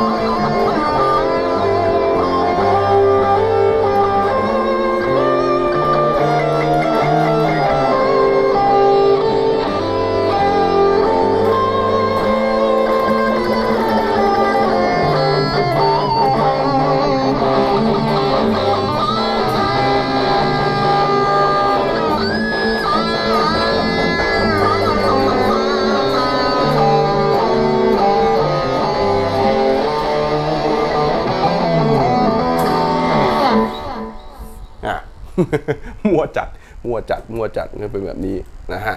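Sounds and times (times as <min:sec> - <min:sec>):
lead guitar solo: 0:00.0 - 0:35.2
bass guitar line: 0:00.0 - 0:35.9
rhythm electric guitar: 0:00.0 - 0:38.9.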